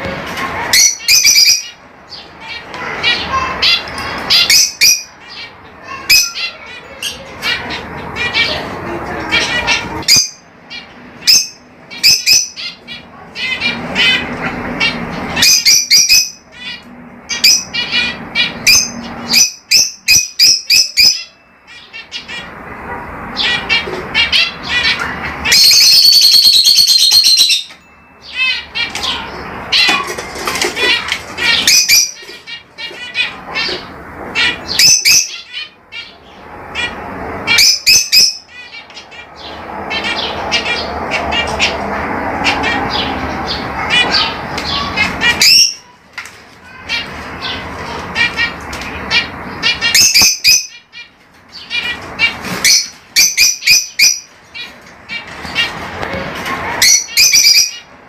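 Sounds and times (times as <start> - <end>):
birds chirping and squeaking: 0.0 - 58.0.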